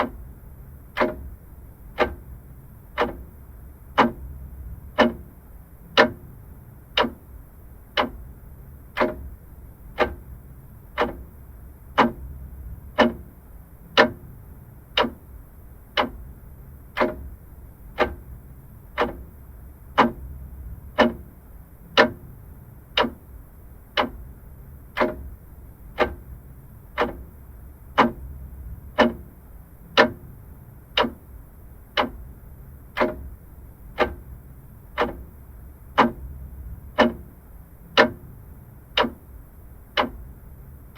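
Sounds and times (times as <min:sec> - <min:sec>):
mechanical clock ticking: 0:00.0 - 0:40.9.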